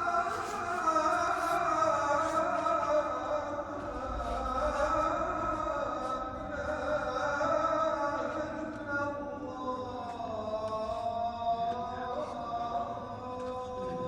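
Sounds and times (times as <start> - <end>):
man chanting call to prayer: 0.0 - 14.0.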